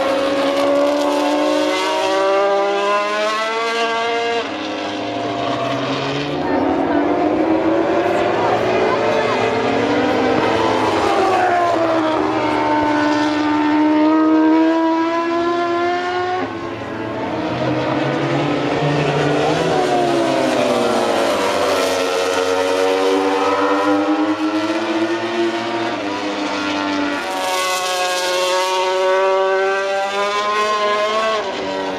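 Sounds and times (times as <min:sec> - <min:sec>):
racing motorcycle engines revving: 0:00.0 - 0:31.9.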